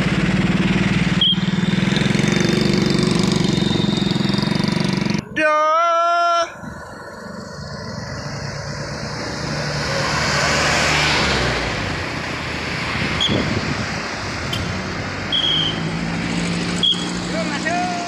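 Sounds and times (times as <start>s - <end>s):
vehicle passing close: 0.0s - 5.4s, 6.5s - 18.0s
motorbike engines humming: 0.0s - 18.0s.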